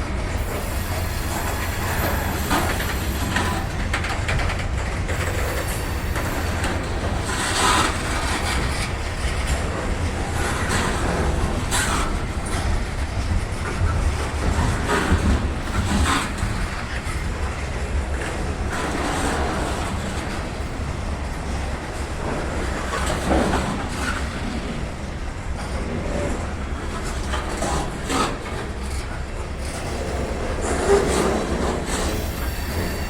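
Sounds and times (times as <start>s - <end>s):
freight train rumbling past: 0.0s - 33.0s
wheels clacking over rail joints: 0.0s - 33.0s.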